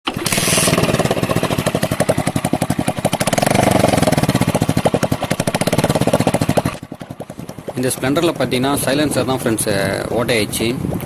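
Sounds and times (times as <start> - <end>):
motorcycle engine exhaust pulses: 0.1 - 10.1.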